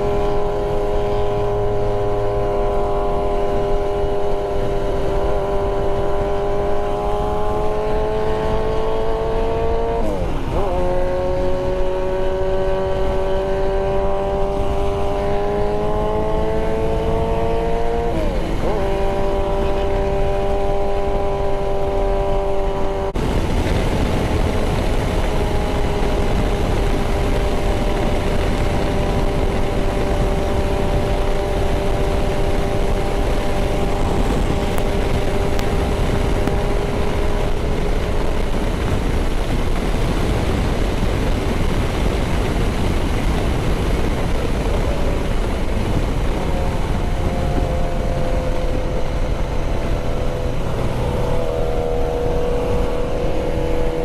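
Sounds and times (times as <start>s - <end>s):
heavy wind rush: 0.0s - 54.0s
motorcycle engine droning: 0.0s - 54.0s.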